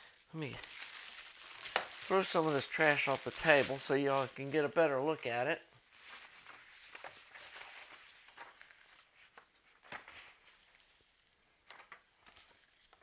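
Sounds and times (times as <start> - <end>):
packaging rustling: 0.0 - 11.1.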